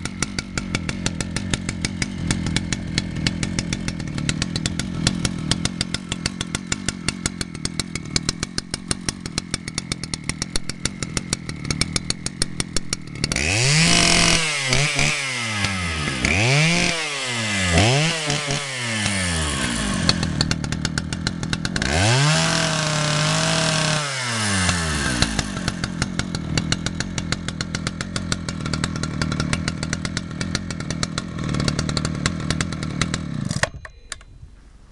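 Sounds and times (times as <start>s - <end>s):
chainsaw idling and revving: 0.0s - 33.7s.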